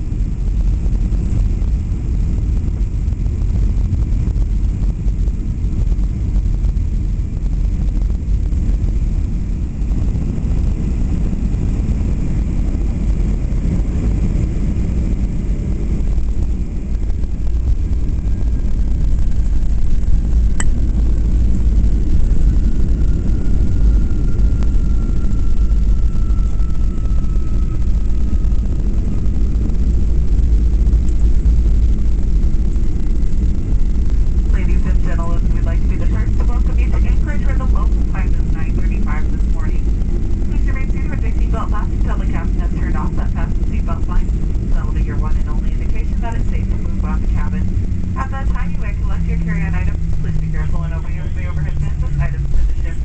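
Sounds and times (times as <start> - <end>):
faint falling whine: 0.0 - 53.0
jet engine cabin rumble: 0.0 - 53.0.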